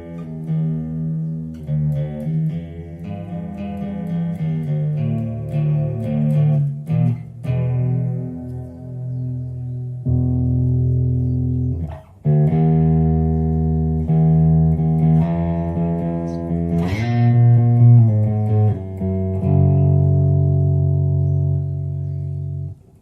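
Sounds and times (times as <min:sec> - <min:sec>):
electric bass notes: 0:00.0 - 0:23.0.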